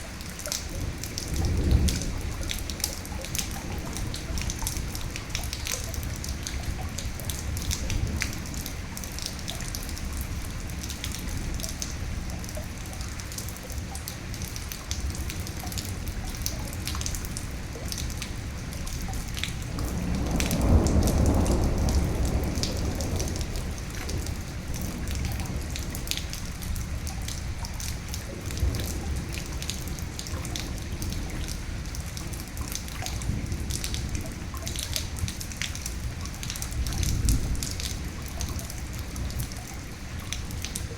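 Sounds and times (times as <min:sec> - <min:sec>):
rain drops striking: 0:00.0 - 0:40.9
low roll of thunder: 0:00.2 - 0:11.7, 0:19.1 - 0:40.9.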